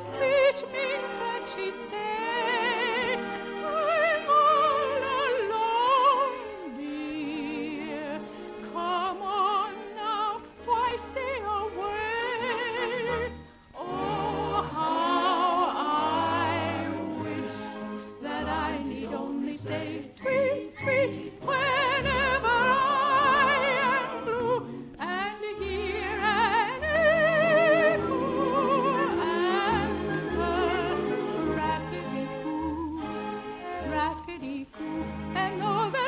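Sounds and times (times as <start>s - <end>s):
operatic singing voice: 0.0s - 36.0s
orchestra: 0.0s - 36.0s.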